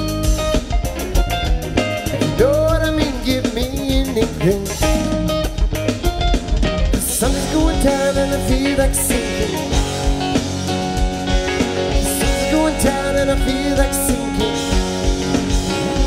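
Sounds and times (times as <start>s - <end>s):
drum kit: 0.0s - 16.0s
electric guitars: 0.0s - 16.0s
keyboards: 0.0s - 16.0s.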